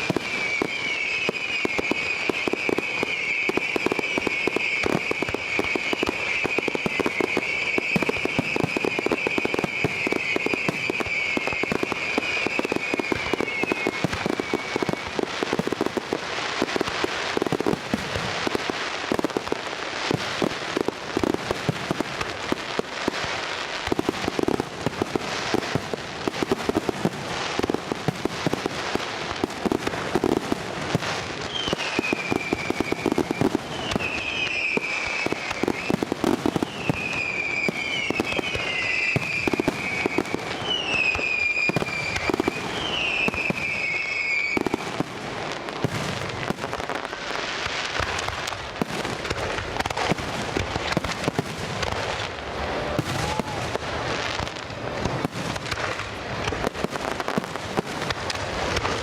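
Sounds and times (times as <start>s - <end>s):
falling firework whistles: 0.0s - 59.0s
fireworks popping and crackling: 0.0s - 59.0s.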